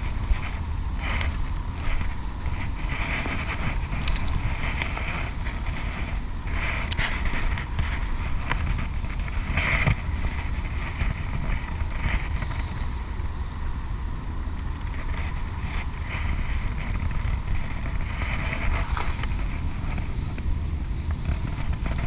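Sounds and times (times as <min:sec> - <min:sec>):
hissy rustles: 0:00.0 - 0:22.0
wind buffeting microphone: 0:00.0 - 0:22.0.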